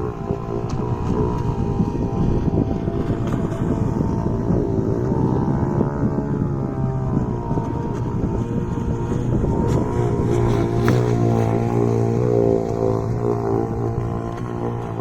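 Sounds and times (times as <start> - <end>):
model boat engine running: 0.0 - 15.0
wind rumble on microphone: 0.0 - 15.0.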